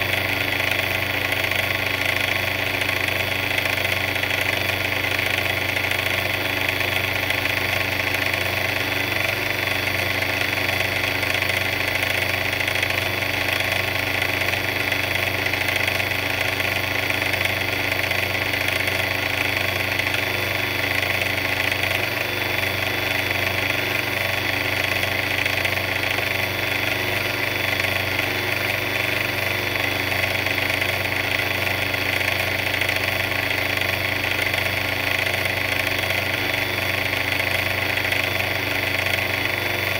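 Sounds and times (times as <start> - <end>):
mixer humming and whining: 0.0 - 39.9.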